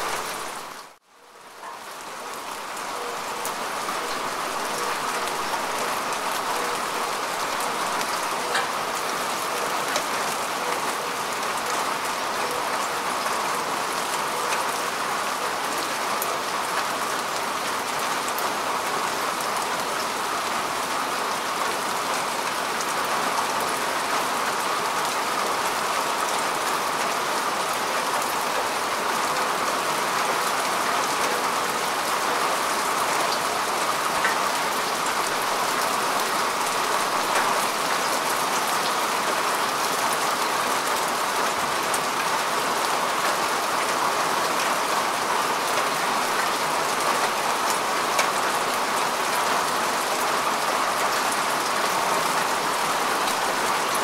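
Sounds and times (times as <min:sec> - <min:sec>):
rain falling on grass: 0:00.0 - 0:54.0.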